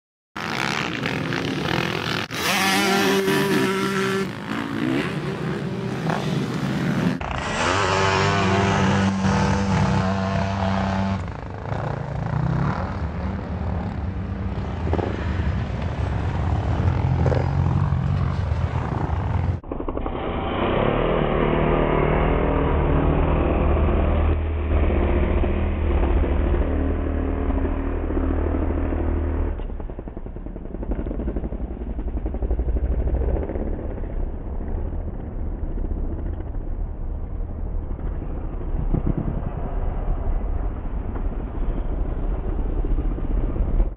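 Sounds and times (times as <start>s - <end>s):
dirt bike engines revving: 0.4s - 37.2s.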